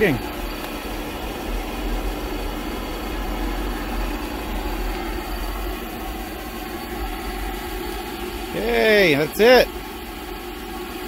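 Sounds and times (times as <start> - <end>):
gas heater blower and burner rumble: 0.0 - 11.0.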